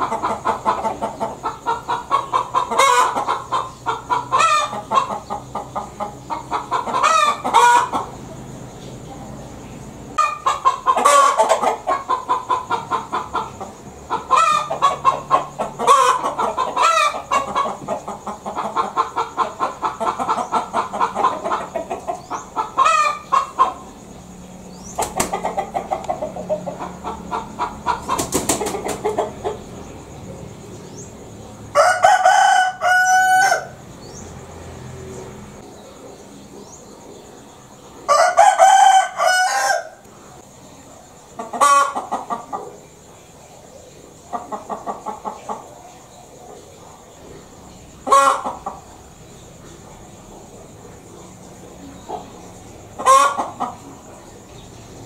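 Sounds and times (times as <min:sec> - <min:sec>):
hen cackling: 0:00.0 - 0:08.5, 0:10.2 - 0:34.2, 0:38.0 - 0:40.5, 0:41.2 - 0:43.0, 0:44.1 - 0:46.7, 0:47.5 - 0:49.1, 0:50.2 - 0:54.2.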